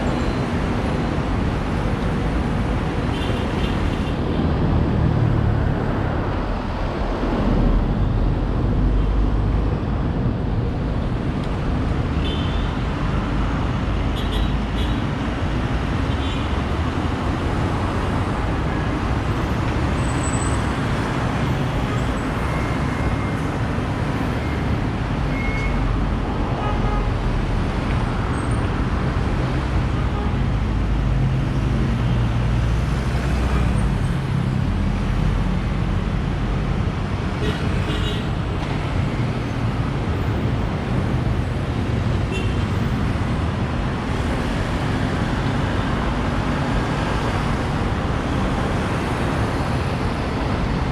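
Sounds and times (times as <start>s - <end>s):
city road traffic: 0.0s - 50.9s.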